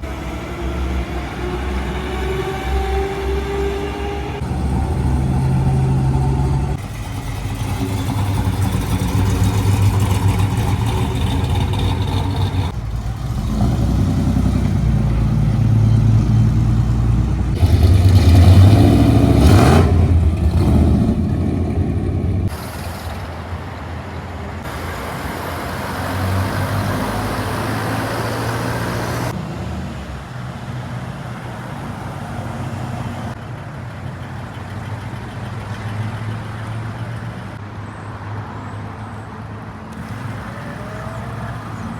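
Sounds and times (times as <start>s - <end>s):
car engines running: 0.0s - 41.9s.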